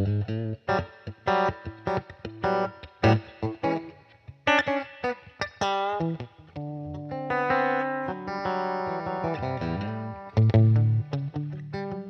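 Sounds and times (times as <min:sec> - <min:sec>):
electric guitar playing blues: 0:00.0 - 0:12.0.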